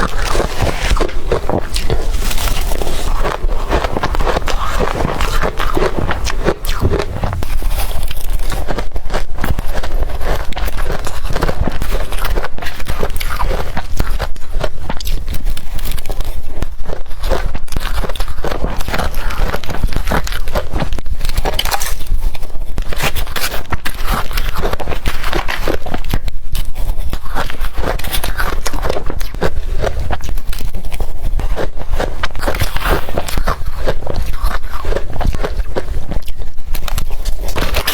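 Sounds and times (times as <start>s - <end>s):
crushed ice crunched in mouth: 0.0s - 37.9s.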